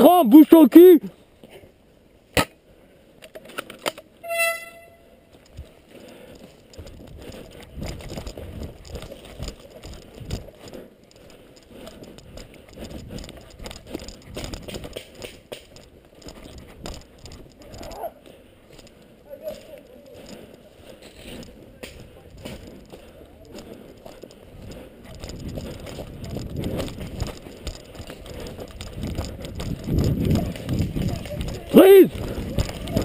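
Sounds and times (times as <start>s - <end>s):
footsteps: 4.6s - 33.0s
gear rattling: 5.3s - 33.0s.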